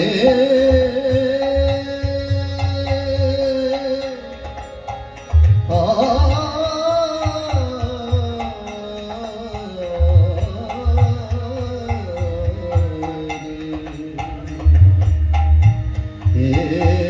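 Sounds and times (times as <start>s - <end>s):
man singing: 0.0s - 5.0s, 5.6s - 15.3s, 16.2s - 17.0s
harmonium: 0.0s - 17.0s.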